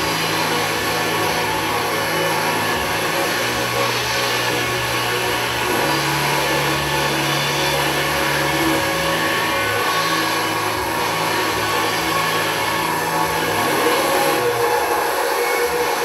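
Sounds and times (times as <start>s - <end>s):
dense hissing electronic drone: 0.0s - 16.0s
low sustained bass tones: 0.0s - 16.0s.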